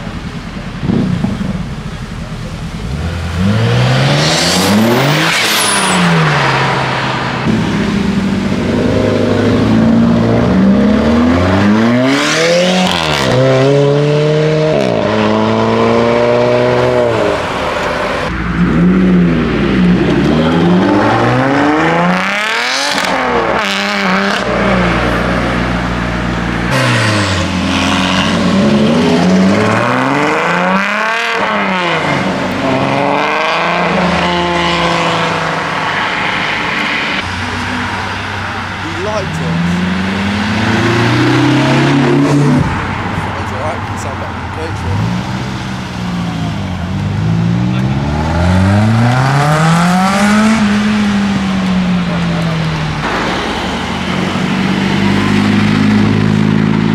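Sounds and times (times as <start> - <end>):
sports cars accelerating past: 2.8 - 44.0, 44.8 - 56.9.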